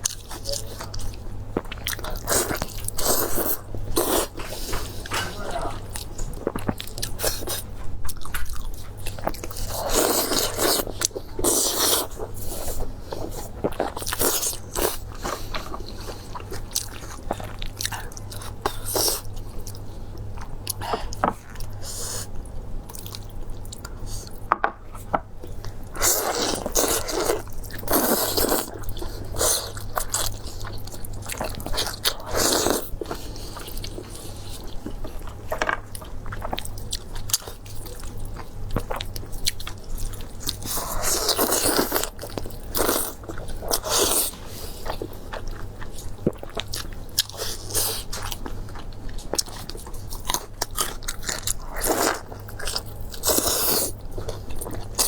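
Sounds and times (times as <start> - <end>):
person crunching and chewing: 0.0 - 22.3, 22.9 - 55.0.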